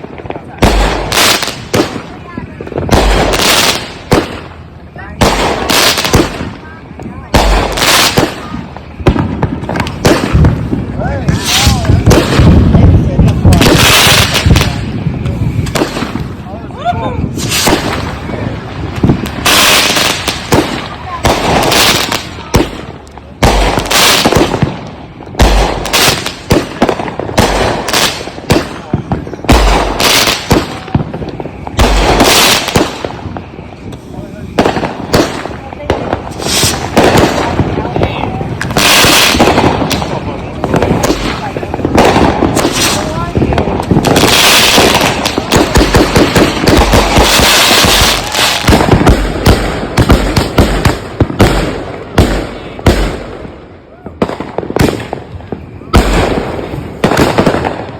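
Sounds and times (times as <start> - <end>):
firework bangs and booms: 0.0 - 57.9
firework crackling: 0.0 - 57.9.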